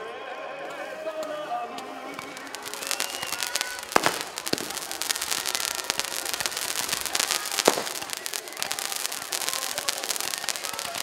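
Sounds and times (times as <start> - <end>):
fireworks crackling pops: 0.7 - 11.0
firework bangs: 1.8 - 11.0.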